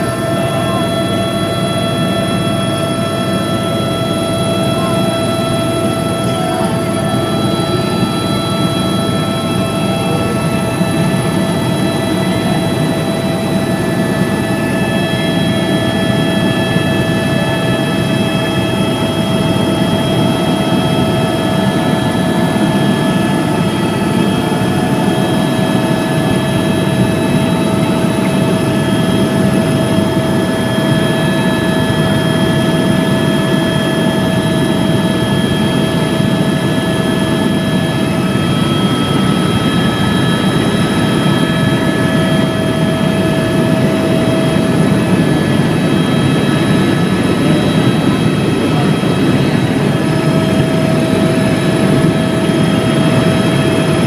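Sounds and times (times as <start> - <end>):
helicopter rotor and engine rumble: 0.0 - 54.0.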